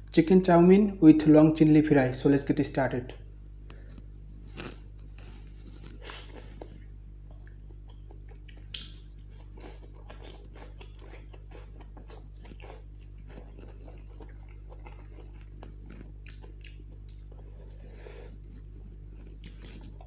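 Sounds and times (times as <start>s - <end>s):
steady low hum: 0.0s - 20.0s
man chewing with mouth clicks: 3.6s - 20.0s.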